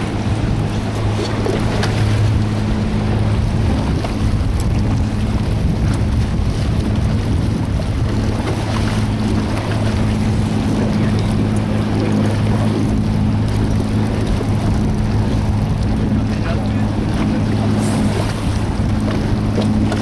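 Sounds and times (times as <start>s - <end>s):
boat engine running: 0.0s - 20.0s
water noise: 0.0s - 20.0s
wind noise on microphone: 0.0s - 20.0s.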